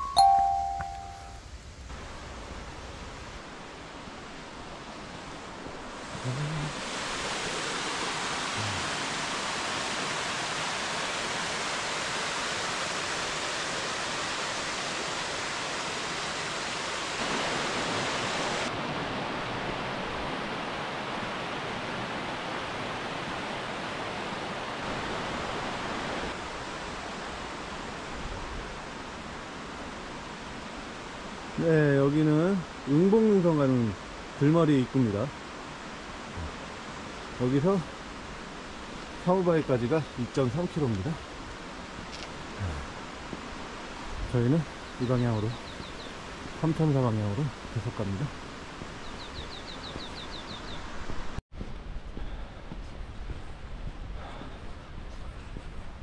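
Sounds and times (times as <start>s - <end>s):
mountain stream rushing: 1.9s - 51.4s.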